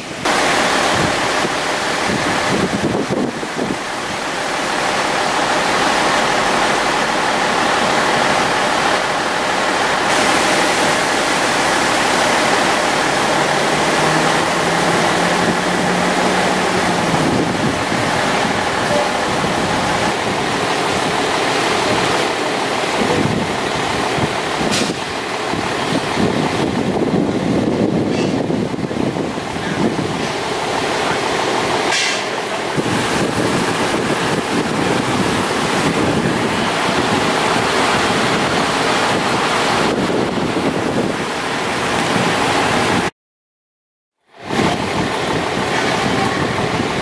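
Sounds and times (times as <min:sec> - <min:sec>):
low engine hum: 0:00.0 - 0:43.1, 0:44.3 - 0:47.0
rushing outdoor noise: 0:00.0 - 0:43.1, 0:44.2 - 0:47.0.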